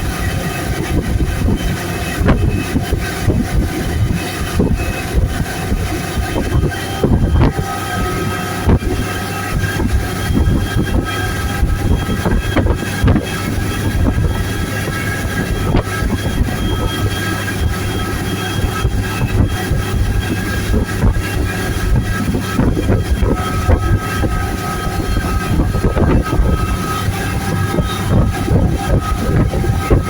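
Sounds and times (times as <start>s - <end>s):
motorboat engine running: 0.0s - 30.0s
wind buffeting microphone: 0.0s - 30.0s.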